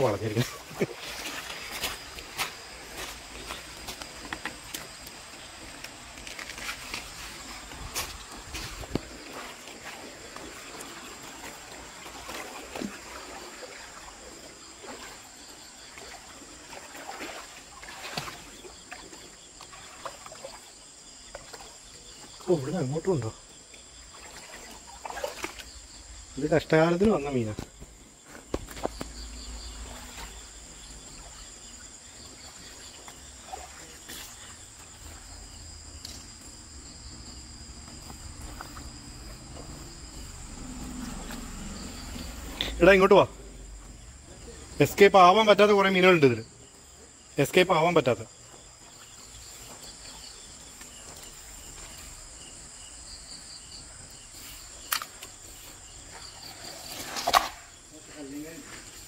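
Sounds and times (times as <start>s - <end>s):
crickets chirring: 0.0s - 59.0s
night insects chorus: 0.0s - 59.0s.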